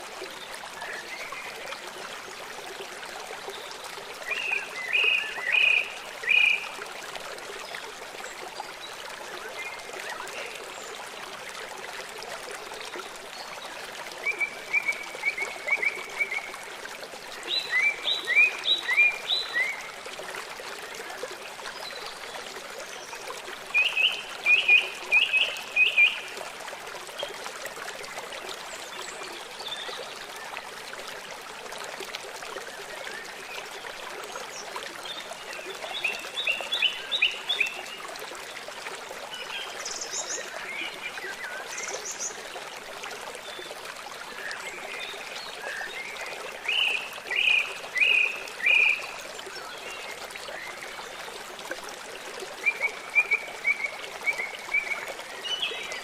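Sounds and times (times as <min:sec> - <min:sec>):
forest stream trickling: 0:00.0 - 0:56.0.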